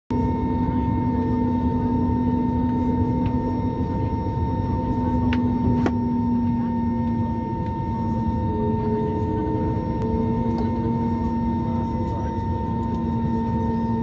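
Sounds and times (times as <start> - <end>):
airplane engines humming: 0.1 - 14.0.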